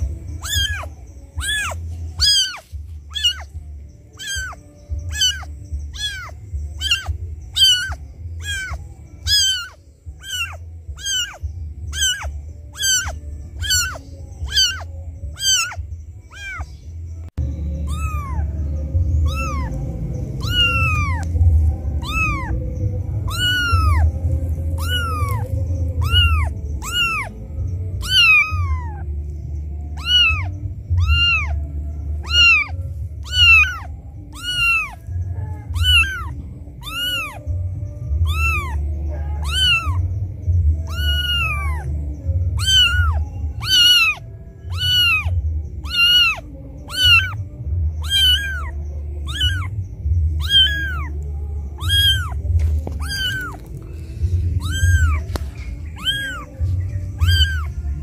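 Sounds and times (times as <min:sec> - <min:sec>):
steady low rumble: 0:00.0 - 0:58.0
kitten meowing: 0:00.4 - 0:16.7, 0:17.8 - 0:19.8, 0:20.4 - 0:29.0, 0:30.0 - 0:37.5, 0:38.2 - 0:40.1, 0:40.8 - 0:57.8.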